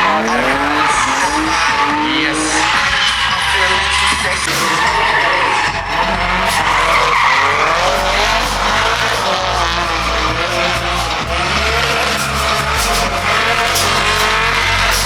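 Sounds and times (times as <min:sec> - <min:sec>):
car engine revving hard: 0:00.0 - 0:15.0
tyres squealing: 0:00.0 - 0:15.0.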